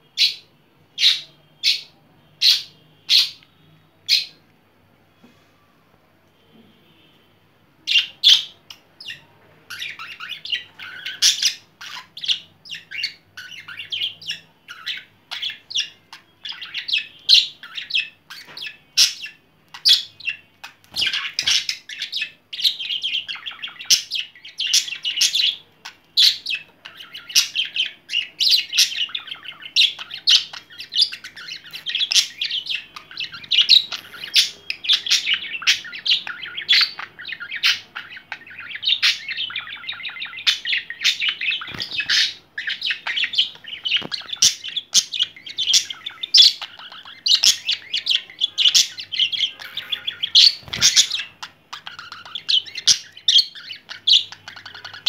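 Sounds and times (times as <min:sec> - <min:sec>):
budgerigar chattering and warbling: 0:07.9 - 0:55.0.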